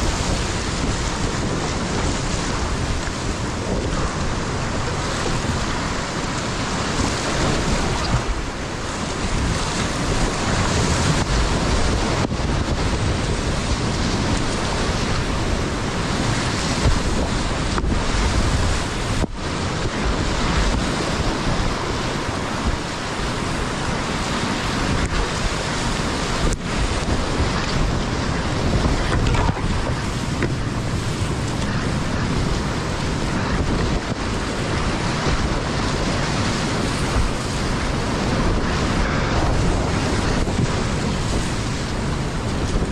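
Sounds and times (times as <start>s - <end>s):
paddle strokes splashing: 0.0s - 42.9s
whitewater rushing: 0.0s - 42.9s
wind buffeting microphone: 0.0s - 42.9s.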